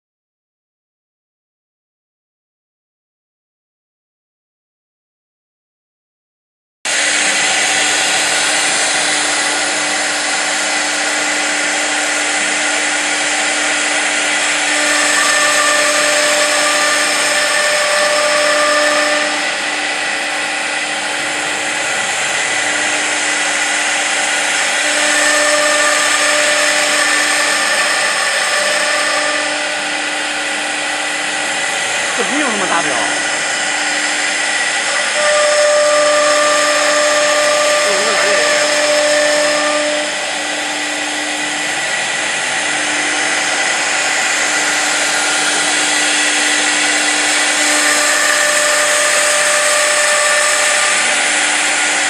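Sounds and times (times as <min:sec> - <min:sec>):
cnc router spindle whine: 0:06.9 - 0:52.0
router cutting wood: 0:06.9 - 0:52.0.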